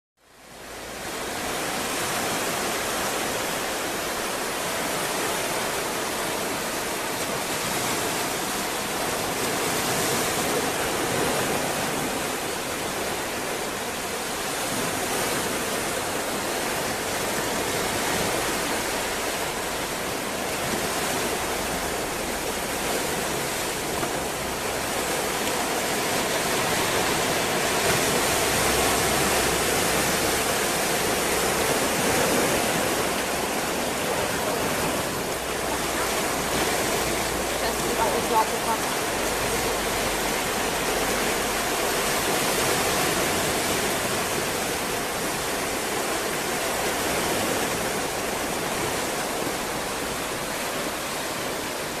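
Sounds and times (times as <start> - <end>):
ocean surf rushing: 0.3 - 52.0.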